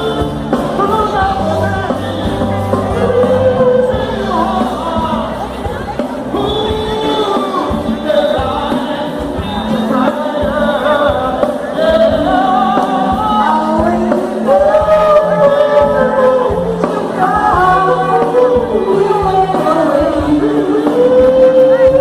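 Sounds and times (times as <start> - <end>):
band playing: 0.0 - 22.0
person singing: 0.0 - 22.0.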